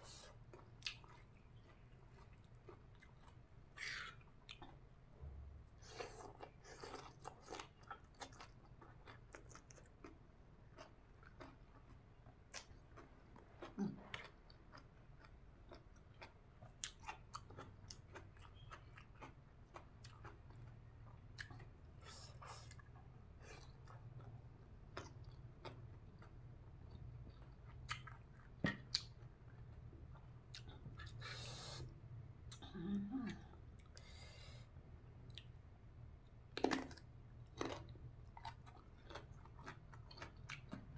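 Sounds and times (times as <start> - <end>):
person chewing crunchy vegetables: 0.0 - 32.7, 36.4 - 40.9.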